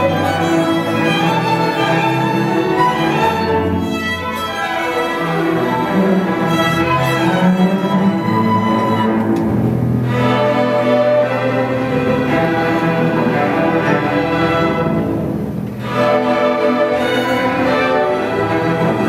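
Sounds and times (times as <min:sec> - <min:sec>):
string orchestra playing: 0:00.0 - 0:19.0.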